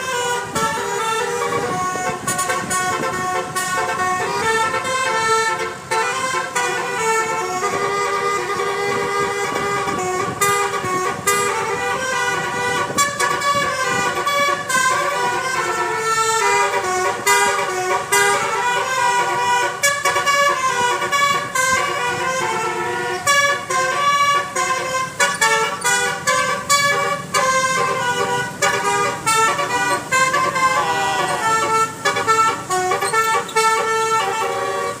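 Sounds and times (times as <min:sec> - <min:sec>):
multi-tone bus horn melody: 0:00.0 - 0:35.0.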